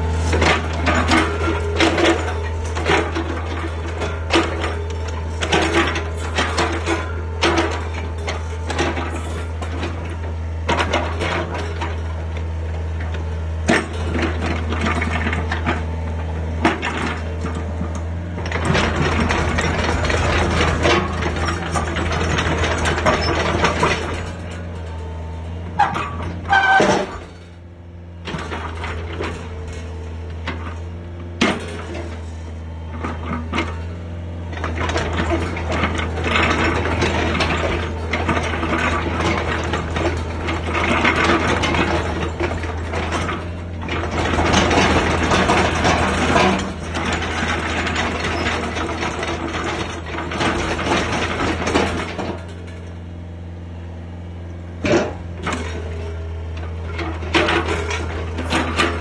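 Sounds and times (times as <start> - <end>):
excavator diesel engine drone: 0.0 - 59.0
metallic clanking and rattling: 0.2 - 27.6, 28.2 - 53.2, 54.3 - 59.0.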